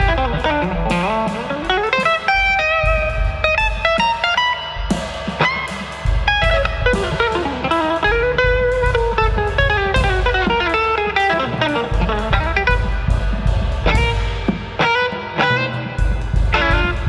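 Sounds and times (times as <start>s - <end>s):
drums: 0.0s - 17.0s
electric guitar melody: 0.0s - 17.0s.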